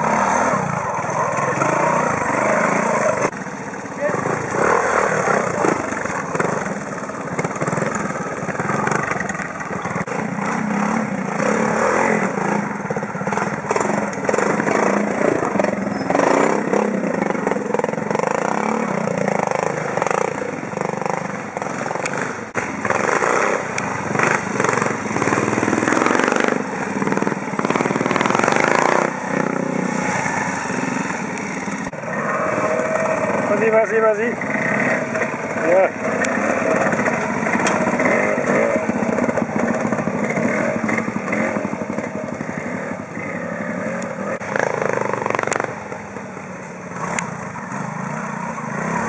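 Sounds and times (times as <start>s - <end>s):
motorcycle engines revving in bursts: 0.0s - 49.0s.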